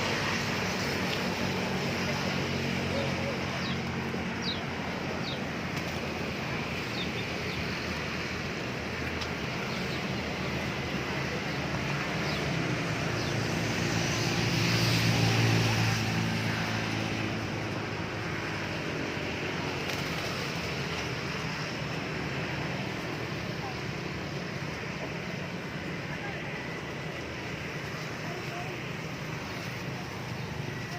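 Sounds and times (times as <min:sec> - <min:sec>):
outdoor background noise: 0:00.0 - 0:30.9.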